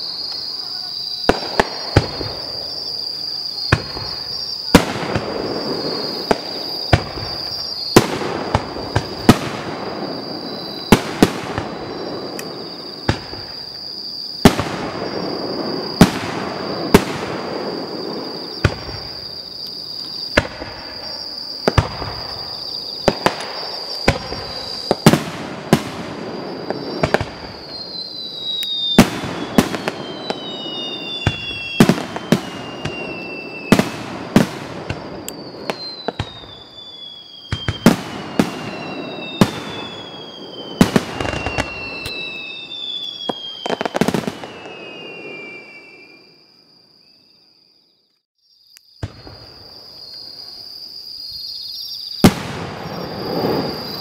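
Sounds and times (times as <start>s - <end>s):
firework shells bursting with echo: 0.2s - 46.2s.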